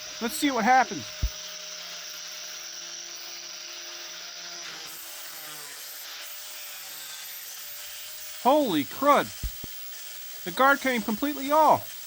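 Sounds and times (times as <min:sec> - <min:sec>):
angle grinder motor whine: 0:00.0 - 0:12.0.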